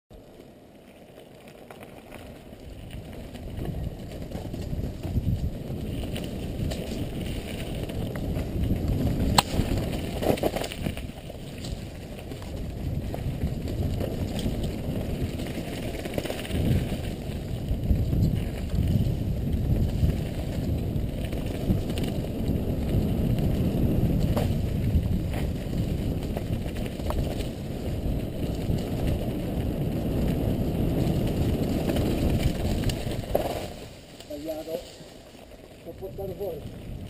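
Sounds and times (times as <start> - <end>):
bike tyres rumbling on dirt trail: 0.1 - 37.0.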